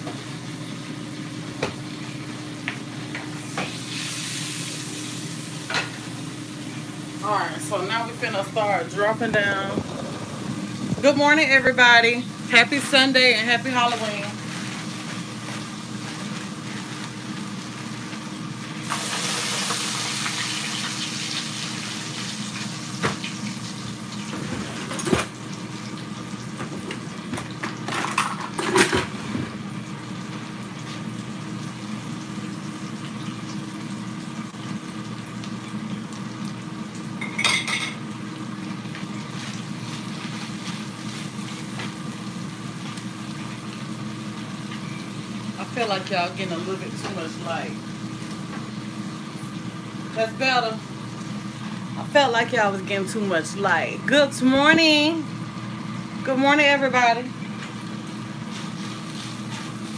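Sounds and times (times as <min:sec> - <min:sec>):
sausage and onions sizzling: 0:00.0 - 0:24.7, 0:29.2 - 0:52.4, 0:53.1 - 0:59.9.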